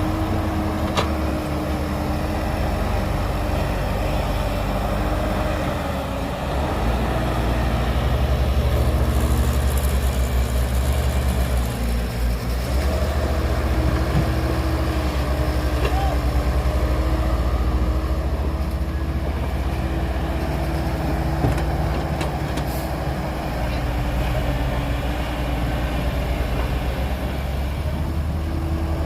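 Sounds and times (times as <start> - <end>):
heavy diesel engine rumbling: 0.0 - 29.0.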